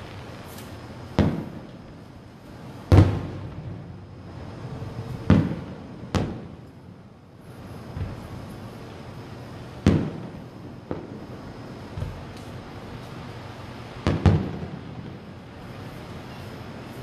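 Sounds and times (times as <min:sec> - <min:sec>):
fireworks shells booming: 0:00.0 - 0:17.0.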